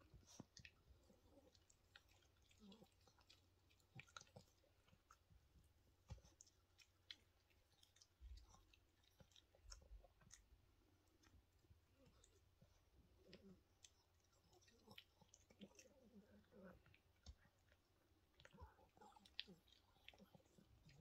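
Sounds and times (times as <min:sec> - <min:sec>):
dog chewing a treat: 0:00.0 - 0:21.0.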